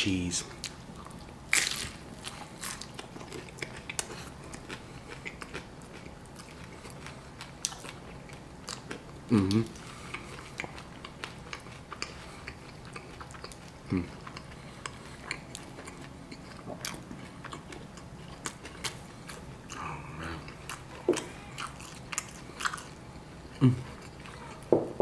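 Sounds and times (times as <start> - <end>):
crunchy chewing: 0.6 - 24.7.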